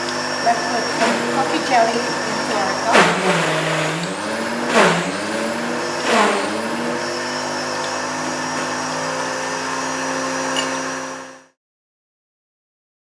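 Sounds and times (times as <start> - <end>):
blender motor running: 0.0 - 11.6.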